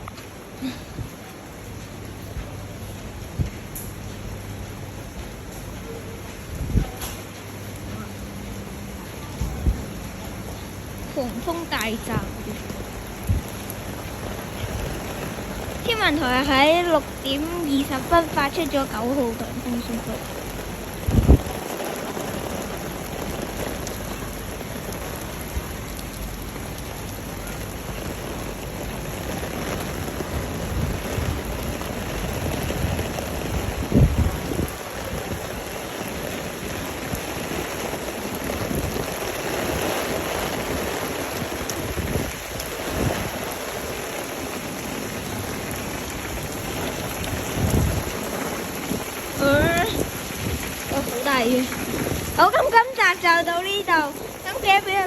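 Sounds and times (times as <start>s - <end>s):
gusty wind: 0.0s - 55.0s
heavy rain pouring: 0.0s - 55.0s.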